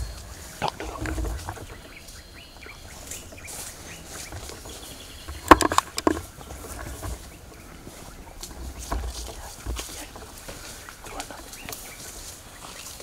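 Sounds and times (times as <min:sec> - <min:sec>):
faint bird chirps: 0:00.0 - 0:13.0
leaves brushing: 0:00.0 - 0:13.0
twigs crackling and snapping: 0:00.0 - 0:13.0.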